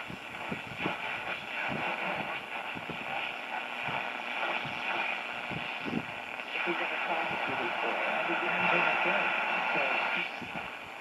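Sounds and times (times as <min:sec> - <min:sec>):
radio static and hiss: 0:00.0 - 0:11.0
short radio crackles: 0:00.0 - 0:11.0.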